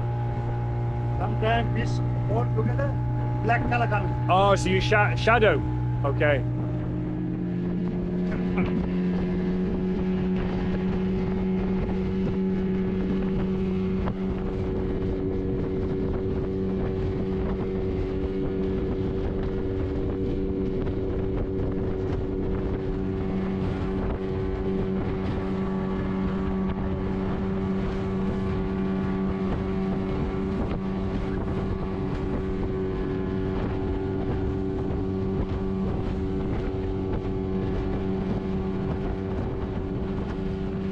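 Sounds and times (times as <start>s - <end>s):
boat engine running steadily: 0.0s - 40.9s.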